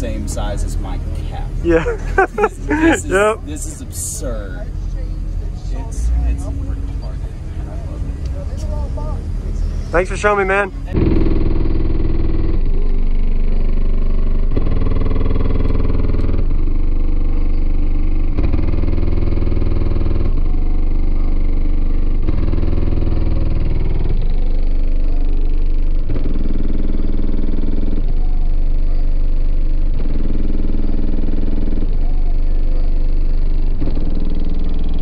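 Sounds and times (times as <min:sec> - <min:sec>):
bass-heavy music from subwoofer: 0:00.0 - 0:35.0.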